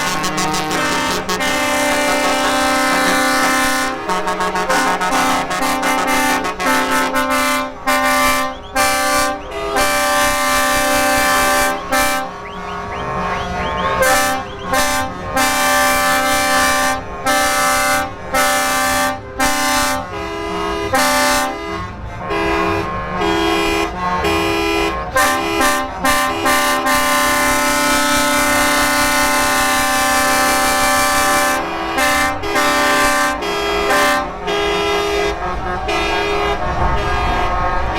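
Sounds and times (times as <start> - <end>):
truck air horn blasts: 0.0 - 37.9.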